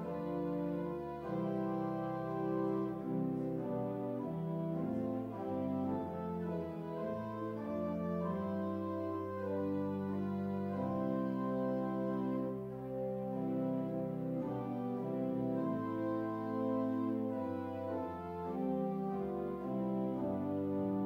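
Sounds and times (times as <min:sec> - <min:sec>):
sustained organ chords: 0:00.0 - 0:21.0.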